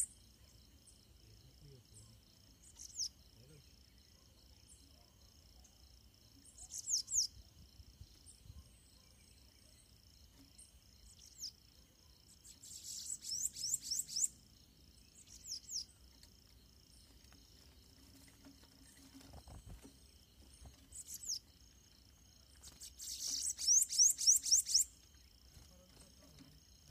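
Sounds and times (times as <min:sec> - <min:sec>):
birds singing high rapid notes: 0:00.0 - 0:26.9
insect drone: 0:00.0 - 0:26.9.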